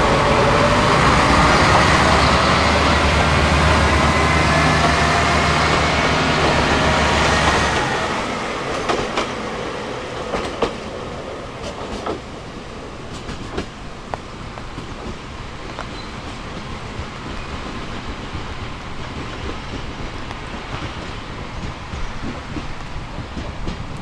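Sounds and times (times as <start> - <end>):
train wheels clacking on rail joints: 0.0 - 12.5, 13.1 - 24.0
diesel train engine running: 0.0 - 24.0.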